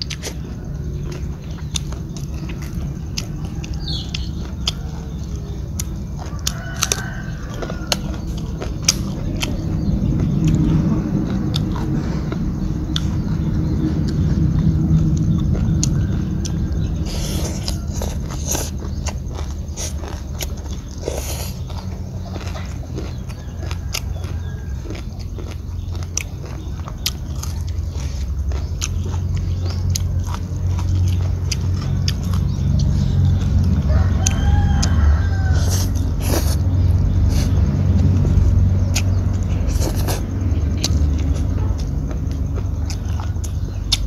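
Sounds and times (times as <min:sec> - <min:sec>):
close-up wet chewing: 0:00.0 - 0:44.0
steady low rumble: 0:00.0 - 0:44.0.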